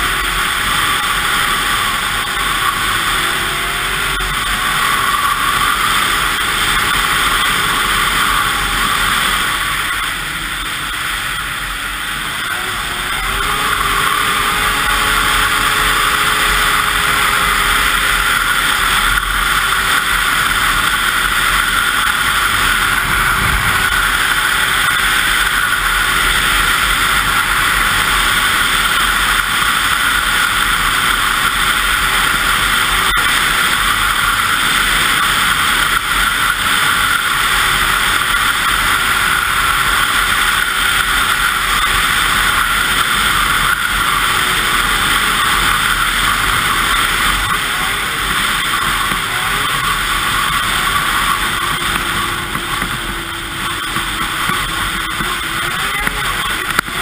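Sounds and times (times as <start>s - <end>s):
snowmobile engine at speed: 0.0s - 57.0s.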